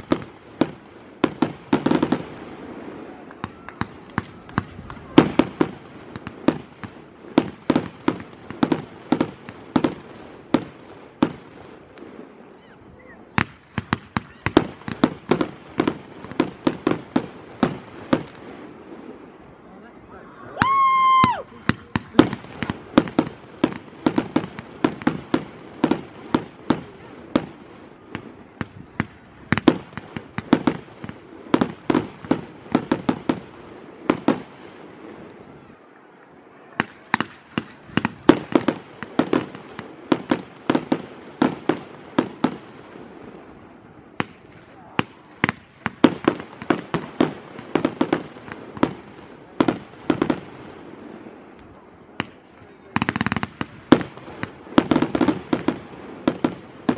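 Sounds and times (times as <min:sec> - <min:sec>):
fireworks bangs: 0:00.0 - 0:56.9.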